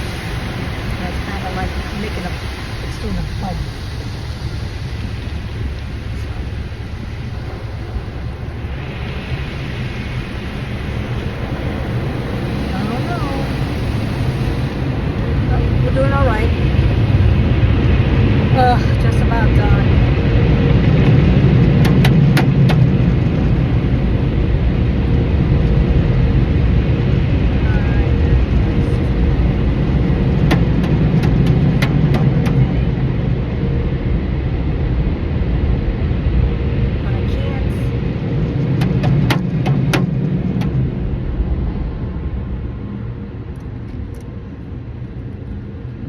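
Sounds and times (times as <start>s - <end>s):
car wash machinery running: 0.0s - 46.0s.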